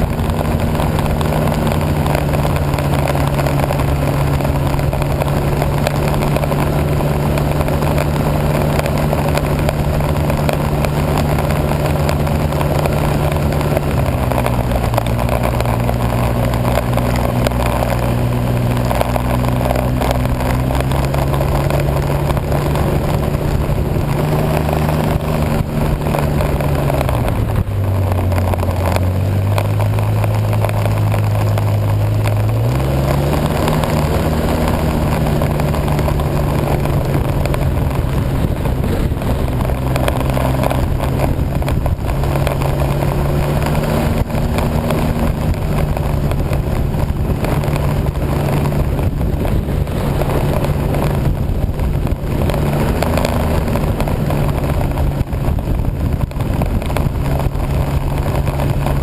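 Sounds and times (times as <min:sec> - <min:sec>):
rushing noise: 0:00.0 - 0:59.0
snowmobile engine running: 0:00.0 - 0:59.0.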